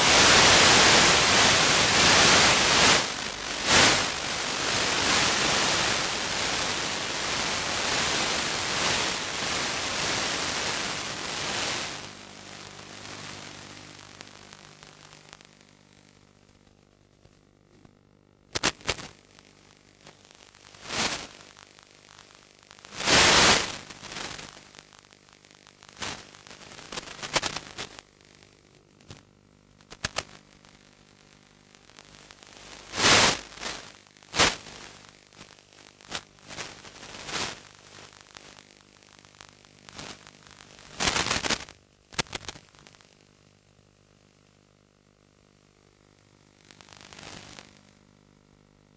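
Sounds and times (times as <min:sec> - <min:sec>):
hissing radio static bursts: 0:00.0 - 0:17.4, 0:18.4 - 0:48.9
faint steady hum: 0:00.0 - 0:48.9.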